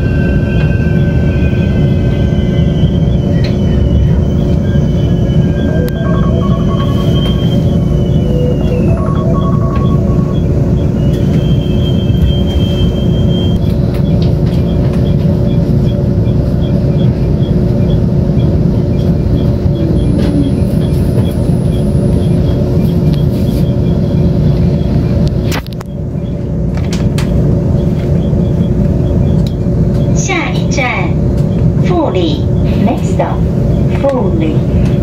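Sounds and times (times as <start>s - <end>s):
constant hum: 0.0s - 35.0s
train interior rumble: 0.0s - 35.0s.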